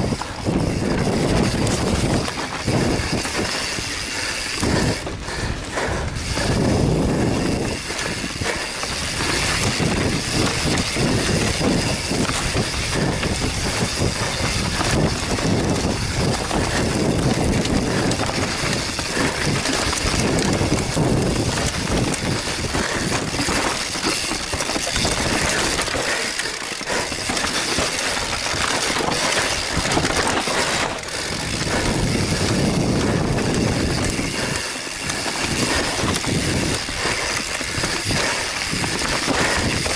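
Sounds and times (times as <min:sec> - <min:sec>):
bike knocking and rattling: 0:00.0 - 0:39.9
bike tyres rolling over dirt: 0:00.0 - 0:39.9
wind buffeting camera: 0:00.0 - 0:39.9.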